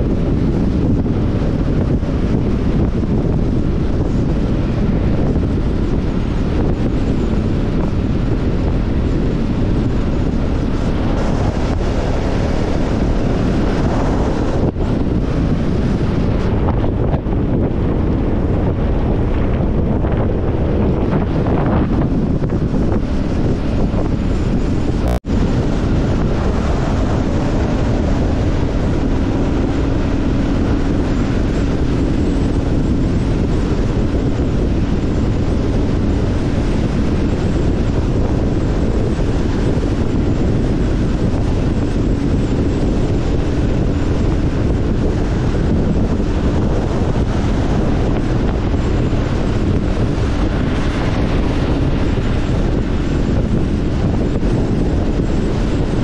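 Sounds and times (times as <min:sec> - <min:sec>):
motorcycle engine drone: 0:00.0 - 0:56.0
wind buffeting microphone: 0:00.0 - 0:56.0.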